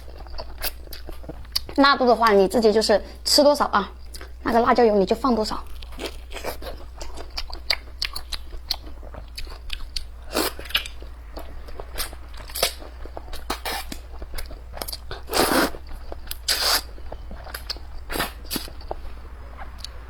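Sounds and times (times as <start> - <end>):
person chewing and biting: 0.0 - 1.8, 5.6 - 20.0.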